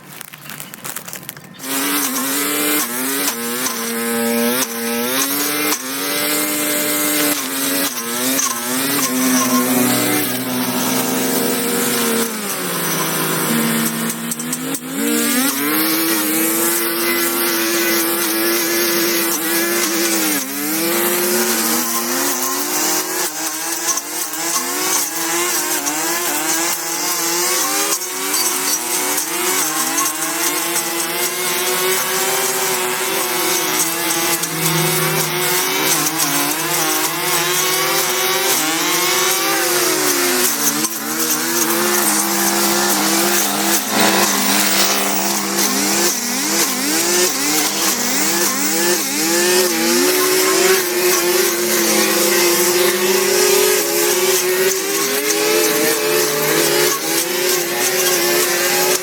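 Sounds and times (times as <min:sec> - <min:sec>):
small petrol engine at high revs: 0:00.0 - 0:59.0.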